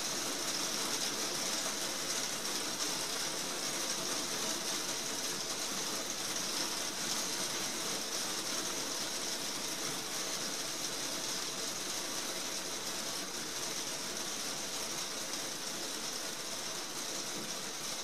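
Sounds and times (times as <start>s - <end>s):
heavy rain on glass roof: 0.0s - 18.0s.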